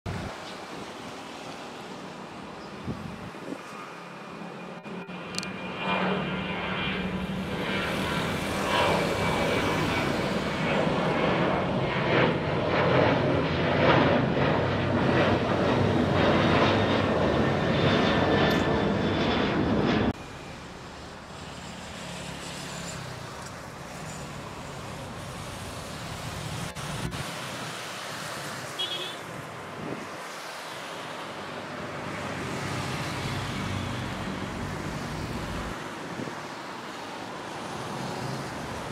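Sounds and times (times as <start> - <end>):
jet engines roaring at take-off: 0.1 - 38.9.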